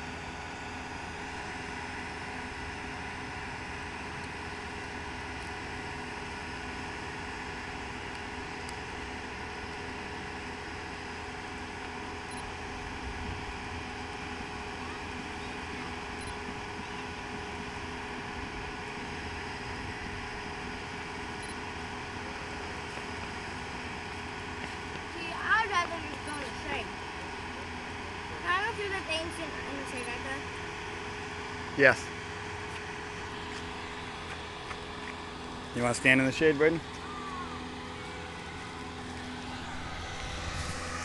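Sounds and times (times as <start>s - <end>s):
machinery humming: 0.0s - 41.0s.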